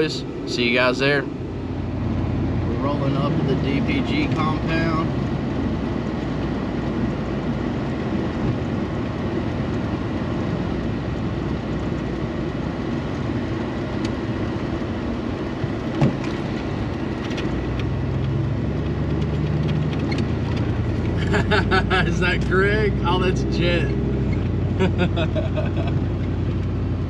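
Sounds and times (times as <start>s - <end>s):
engine and tyre rumble: 0.0s - 27.0s
low engine hum: 0.0s - 27.0s.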